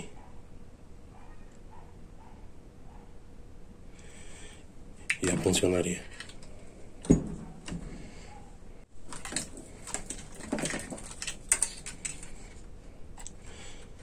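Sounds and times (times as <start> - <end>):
faint room noise: 0.0 - 14.0.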